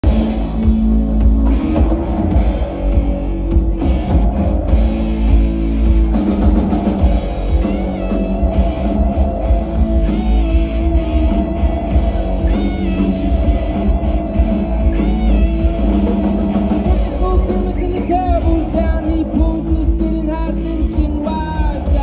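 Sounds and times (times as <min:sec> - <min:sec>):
bass guitar: 0:00.0 - 0:22.0
drum kit: 0:00.0 - 0:22.0
electric guitars: 0:00.0 - 0:22.0.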